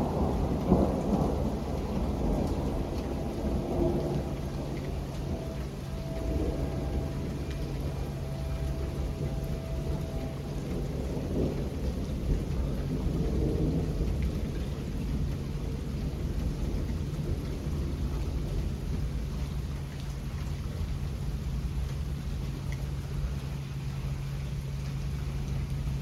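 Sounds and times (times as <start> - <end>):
low rumble of thunder: 0.0 - 26.0
steady rain: 0.0 - 26.0.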